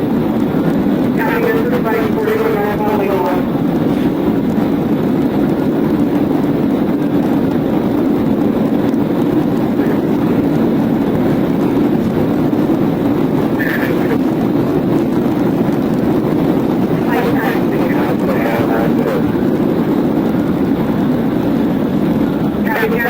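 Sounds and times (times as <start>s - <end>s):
loud vehicle rumble: 0.0s - 23.0s.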